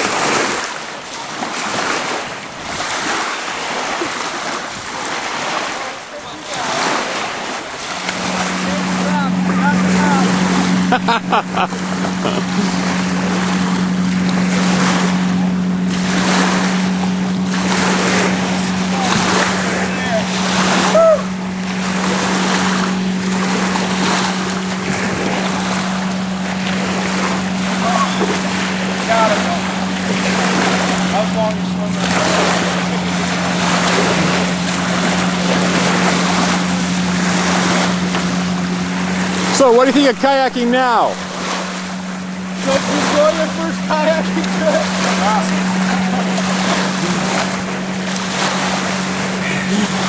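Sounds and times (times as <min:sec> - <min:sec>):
waves washing at shore: 0:00.0 - 0:50.0
wind buffeting microphone: 0:00.0 - 0:50.0
steady low hum: 0:06.0 - 0:50.0.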